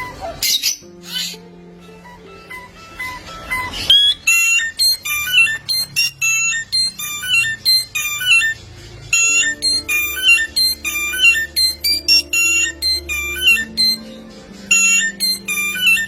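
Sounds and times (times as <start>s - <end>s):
songbird whistling notes: 0.0s - 16.0s.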